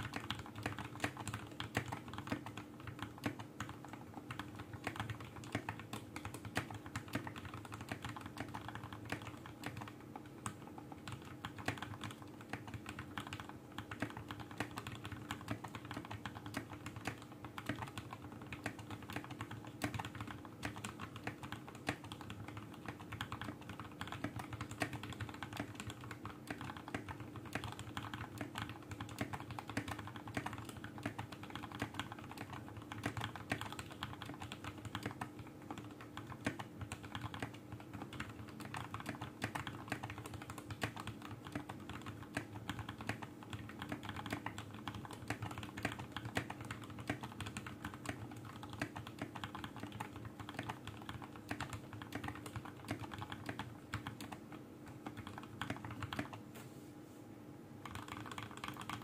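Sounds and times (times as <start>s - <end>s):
fast typing on mechanical keyboard: 0.0s - 56.4s, 57.8s - 59.0s
faint steady hum: 0.0s - 59.0s.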